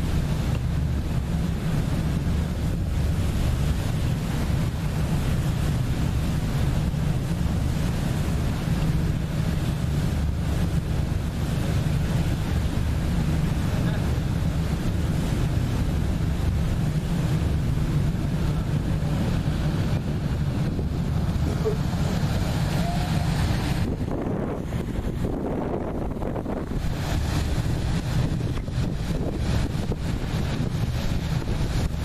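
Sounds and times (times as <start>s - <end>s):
boat engine rumble: 0.0s - 32.0s
water wash: 0.0s - 32.0s
wind on microphone: 0.0s - 32.0s.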